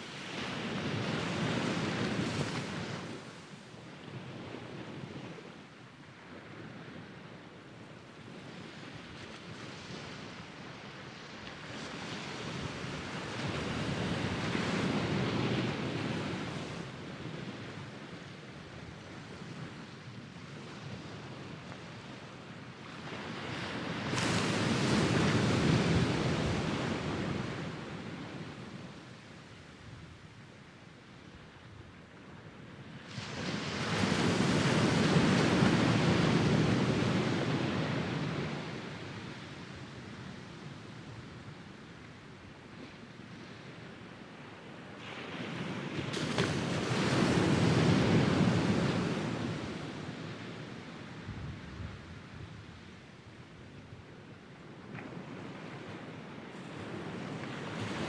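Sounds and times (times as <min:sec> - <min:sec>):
small waves breaking on beach: 0:00.0 - 0:58.0.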